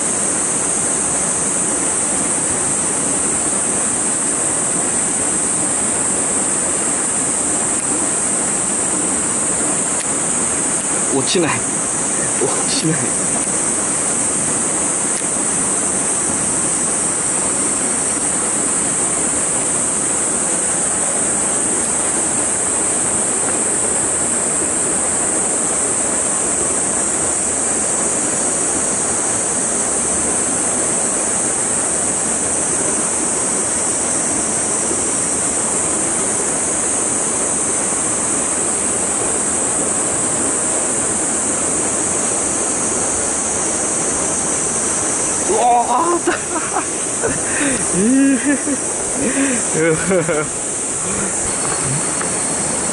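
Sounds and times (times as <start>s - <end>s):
stream flowing over rock: 0.0s - 52.9s.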